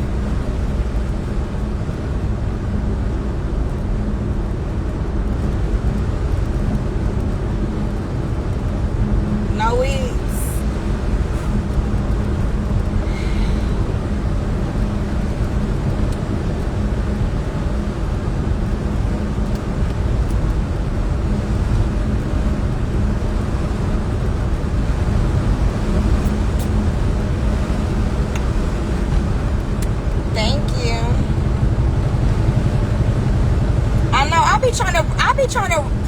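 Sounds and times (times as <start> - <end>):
car cabin road and engine noise: 0.0 - 36.0.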